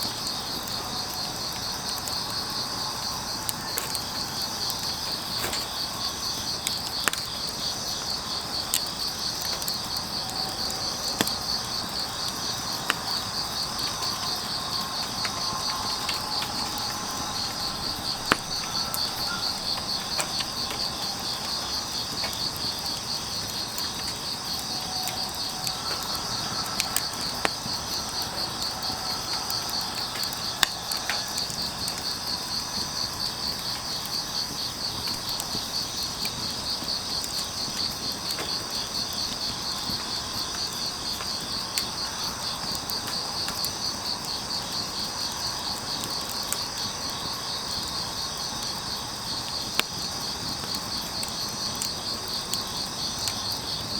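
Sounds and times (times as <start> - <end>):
crickets chirping: 0.0 - 53.9
firewood crackling: 0.0 - 53.9.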